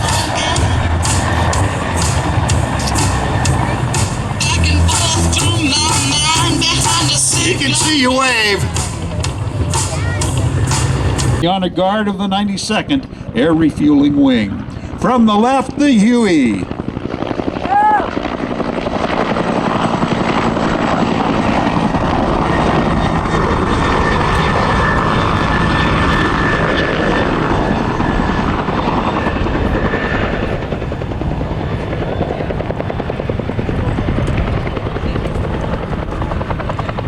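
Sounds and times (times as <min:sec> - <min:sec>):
helicopter rotor chop: 0:00.0 - 0:37.0
turbine engine whine: 0:00.0 - 0:37.0.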